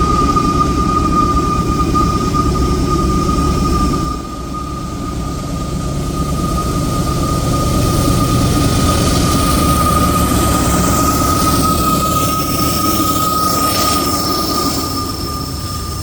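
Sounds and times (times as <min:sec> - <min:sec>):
high-pitched wheel squeal: 0:00.0 - 0:16.0
higher squeal: 0:00.0 - 0:16.0
train cars rumbling: 0:03.1 - 0:16.0.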